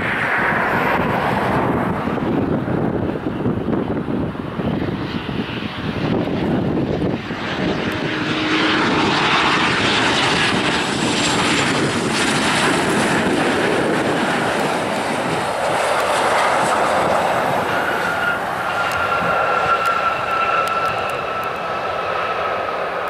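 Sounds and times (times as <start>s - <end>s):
jet airliner rushing noise: 0.0s - 23.0s.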